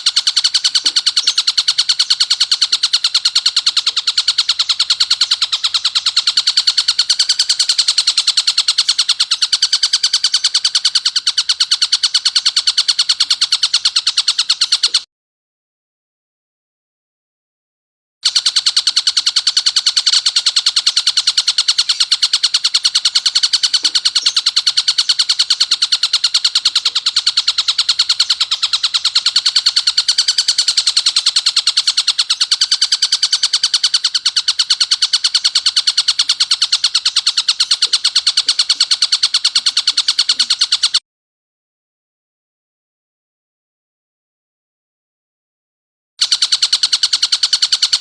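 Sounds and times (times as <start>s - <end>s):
kingfisher rattling call: 0.0s - 15.0s, 18.2s - 41.0s, 46.2s - 48.0s.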